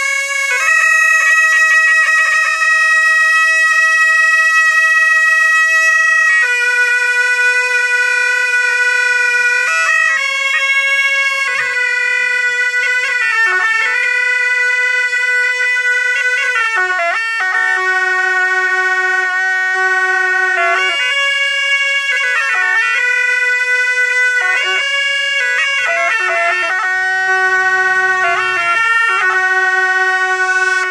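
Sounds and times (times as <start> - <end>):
double-reed shawms playing: 0.0 - 30.9.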